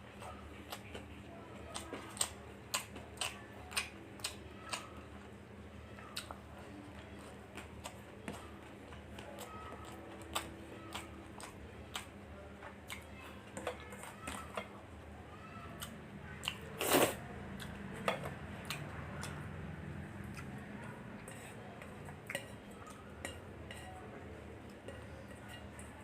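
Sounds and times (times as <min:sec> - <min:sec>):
chewing and mouth sounds: 0:00.1 - 0:05.4, 0:06.1 - 0:14.8, 0:15.8 - 0:19.5, 0:20.2 - 0:23.4.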